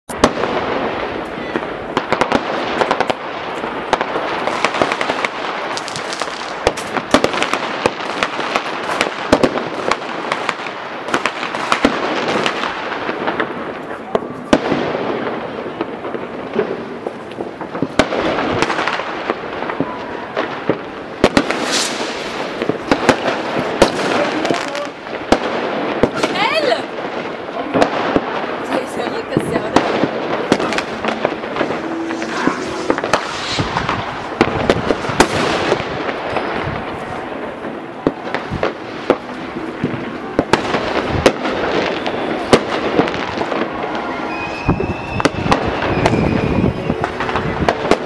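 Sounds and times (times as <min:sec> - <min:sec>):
firecrackers crackling: 0:00.1 - 0:48.0
fireworks bangs: 0:00.1 - 0:48.0.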